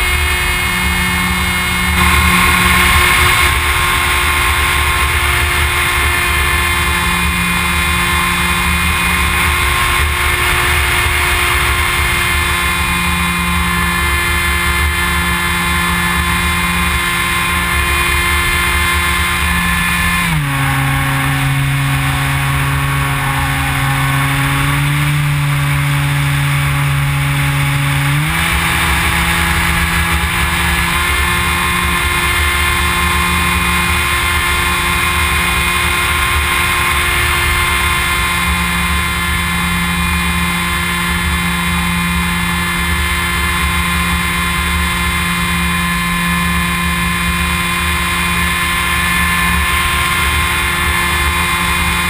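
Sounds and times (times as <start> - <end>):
electric motor and propeller: 0.0 - 52.0
wind noise: 0.0 - 52.0.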